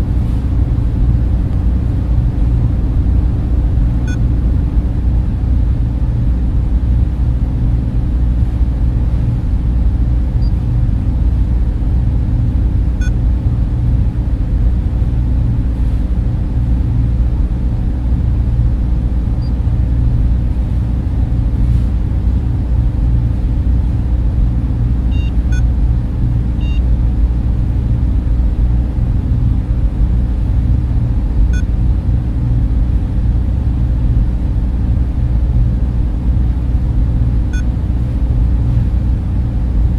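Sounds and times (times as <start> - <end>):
server cooling fans humming: 0.0 - 39.9.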